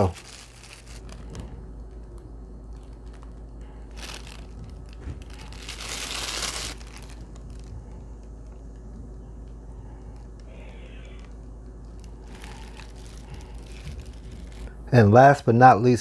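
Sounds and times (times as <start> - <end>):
plastic bag crinkling: 0.0 - 14.9.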